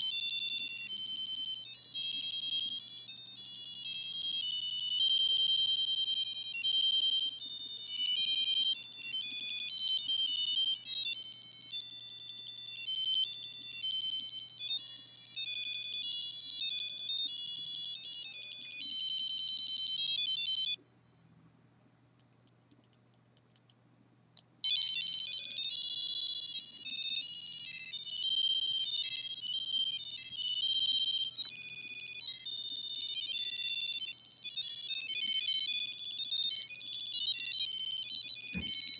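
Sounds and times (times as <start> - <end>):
electronic beeping melody: 0.0 - 20.8, 24.7 - 38.9.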